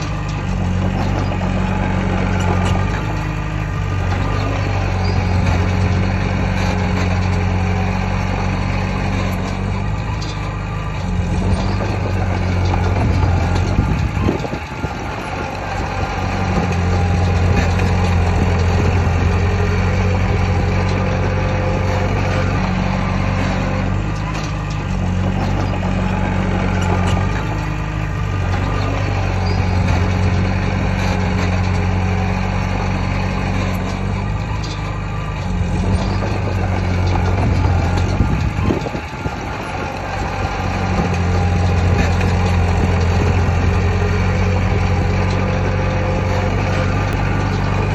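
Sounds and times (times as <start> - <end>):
heavy diesel machinery running: 0.0 - 47.9.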